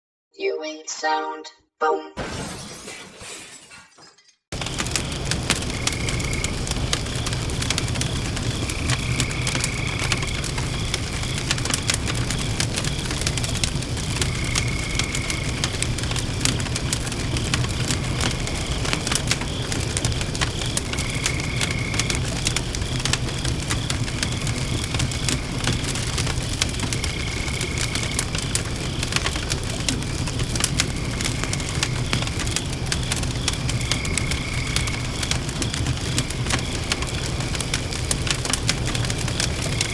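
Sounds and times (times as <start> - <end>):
campfire crackling: 4.6 - 39.9
crickets chirping: 4.6 - 39.9.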